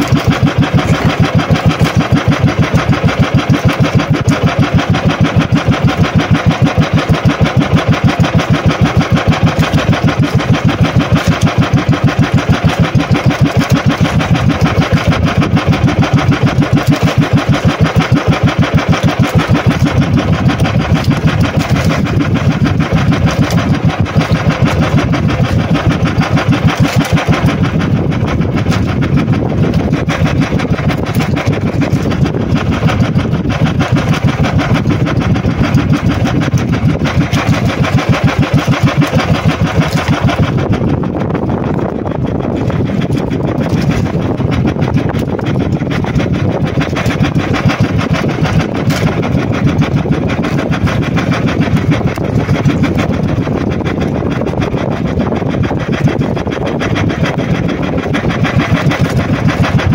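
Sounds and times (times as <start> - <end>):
boat engine chugging: 0.0 - 59.9.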